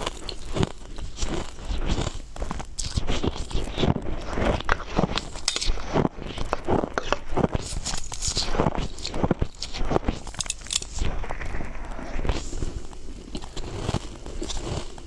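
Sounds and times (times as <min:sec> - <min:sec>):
chewing crushed ice: 0:00.0 - 0:15.0.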